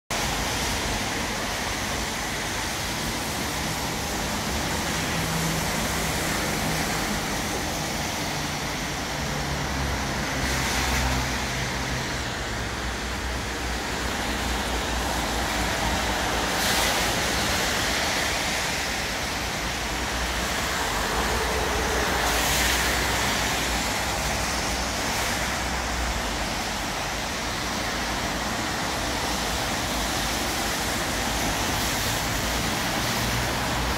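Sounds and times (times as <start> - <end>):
steady rain hiss: 0.1 - 33.9
passing vehicles hum: 0.2 - 33.9.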